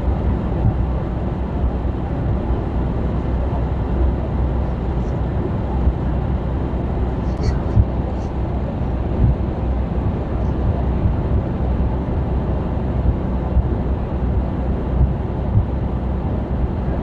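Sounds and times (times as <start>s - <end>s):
road and wind noise: 0.0s - 17.0s
truck engine drone: 0.0s - 17.0s.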